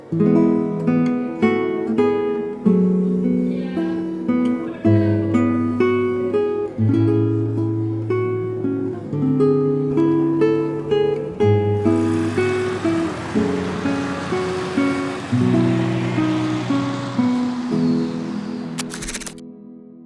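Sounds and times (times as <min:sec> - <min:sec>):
acoustic guitar picking: 0:00.0 - 0:18.9.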